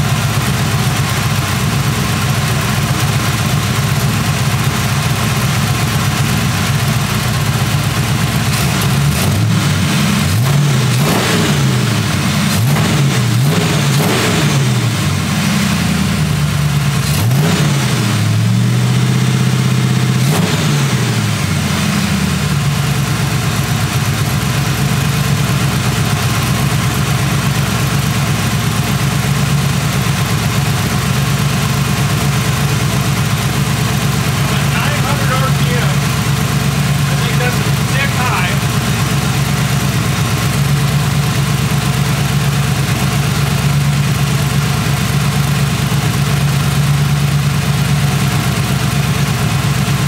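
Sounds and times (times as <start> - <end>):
car engine revving and idling: 0.0 - 50.0.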